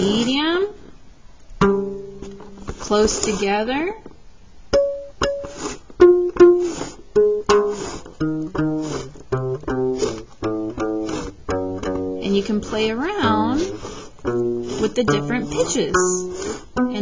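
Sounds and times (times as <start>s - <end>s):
rubber band plucked: 1.4s - 3.4s, 4.7s - 17.0s.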